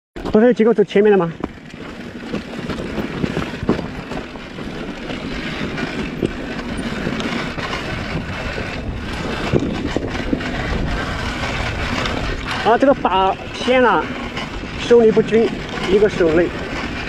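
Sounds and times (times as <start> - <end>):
dirt bike engine rumble: 0.2 - 17.0
wheels knocking on stones: 0.2 - 17.0
wind on microphone: 1.4 - 17.0.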